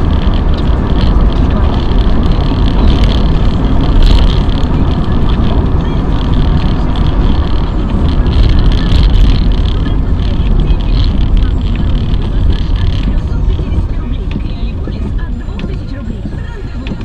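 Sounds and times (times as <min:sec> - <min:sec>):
loud vehicle rumble: 0:00.0 - 0:17.0.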